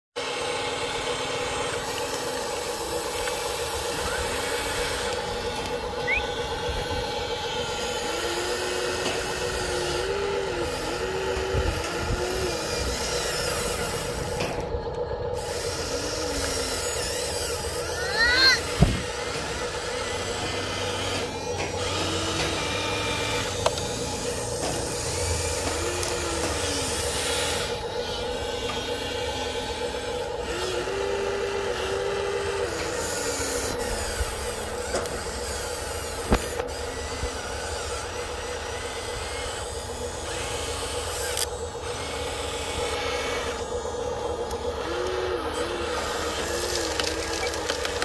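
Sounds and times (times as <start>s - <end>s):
small electric motors whirring: 0.2s - 48.0s.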